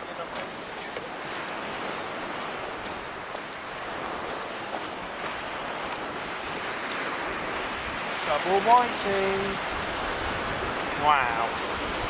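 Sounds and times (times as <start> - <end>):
waves breaking on beach: 0.0 - 12.0
wind on microphone: 0.0 - 12.0.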